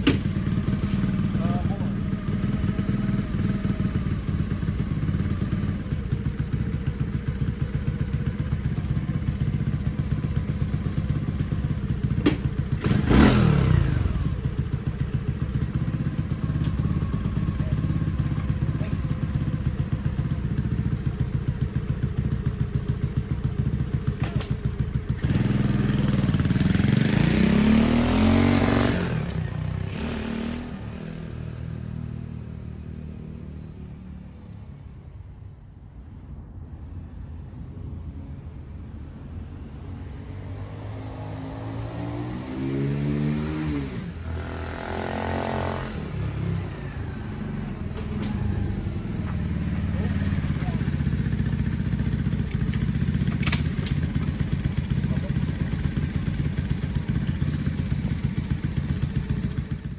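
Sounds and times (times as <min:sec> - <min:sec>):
minibike engine idling and revving: 0:00.0 - 0:35.0, 0:39.3 - 0:59.9.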